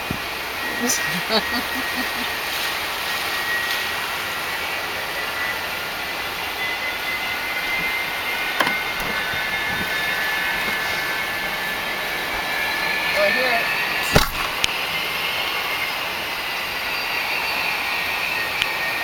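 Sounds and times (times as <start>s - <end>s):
distant jet engines running up: 0.0s - 19.0s.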